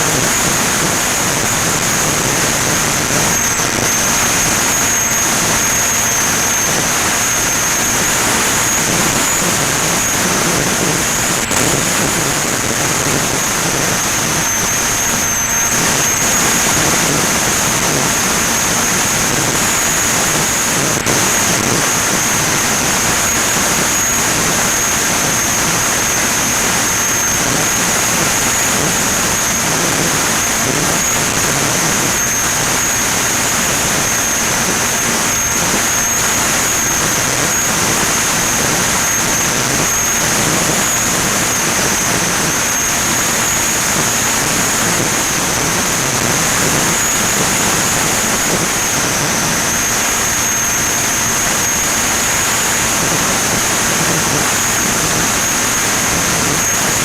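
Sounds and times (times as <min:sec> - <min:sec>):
airflow rushing over microphone: 0:00.0 - 0:57.0
electric motor and propeller: 0:00.0 - 0:57.0
high-pitched whine: 0:00.0 - 0:57.0.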